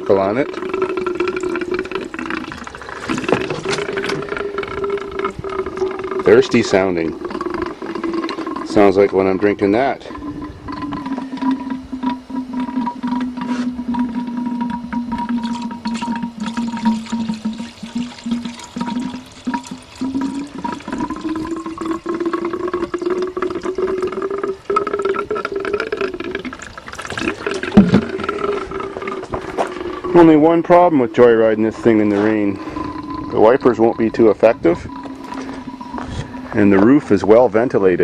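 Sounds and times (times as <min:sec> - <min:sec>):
water gurgling into radiator: 0:00.0 - 0:38.0.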